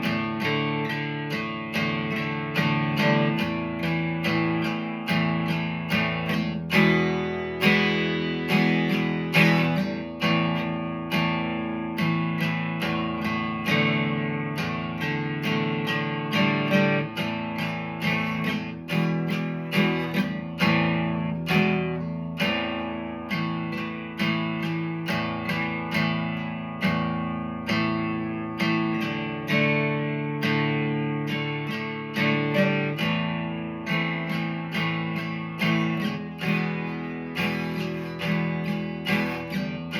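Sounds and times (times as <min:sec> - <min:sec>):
acoustic guitar strummed chords: 0:00.0 - 0:39.9.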